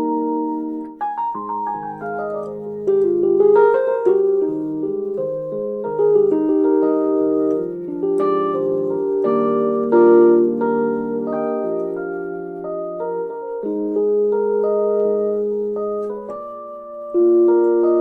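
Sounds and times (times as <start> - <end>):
keyboard playing piano melody: 0.0 - 18.0.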